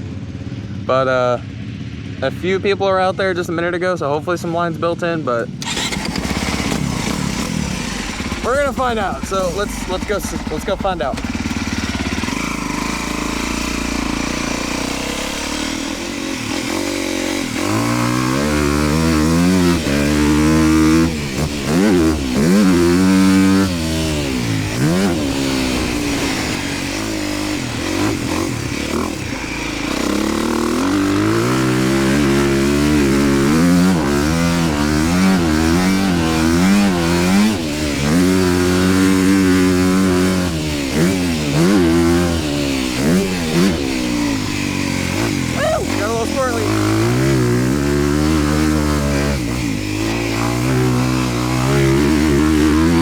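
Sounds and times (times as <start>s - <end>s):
dirt bike engine revving: 5.2s - 53.0s.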